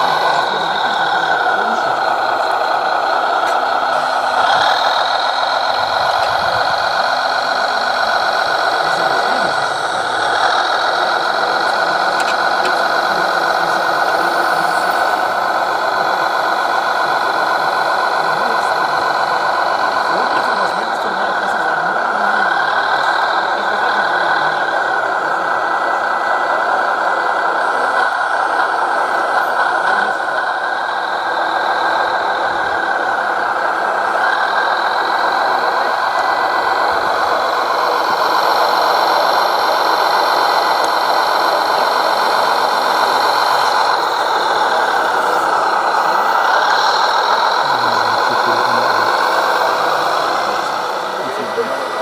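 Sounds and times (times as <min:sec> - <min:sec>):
electric motor and gearbox whining: 0:00.0 - 0:52.0.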